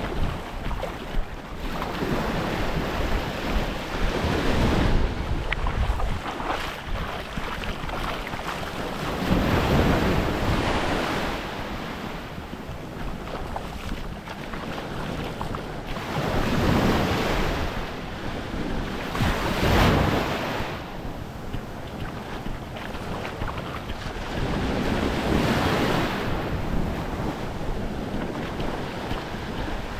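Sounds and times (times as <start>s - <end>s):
small waves washing up shore: 0.0s - 29.9s
wind buffeting microphone: 0.0s - 29.9s.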